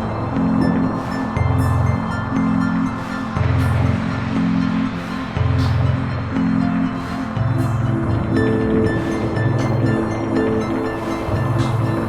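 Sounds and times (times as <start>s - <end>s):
low synthesizer tones: 0.0s - 12.0s.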